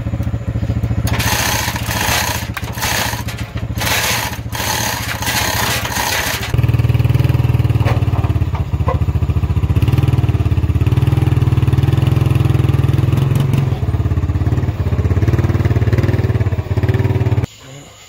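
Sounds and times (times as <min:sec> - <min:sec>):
atv engine running: 0:00.0 - 0:17.5.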